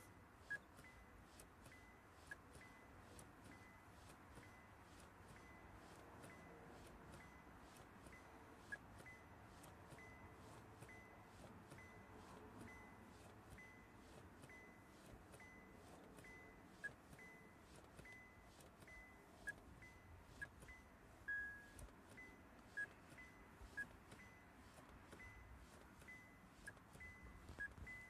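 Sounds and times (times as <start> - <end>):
car warning chime beeping: 0.0 - 28.0
short lower-pitched beeps: 0.0 - 28.0.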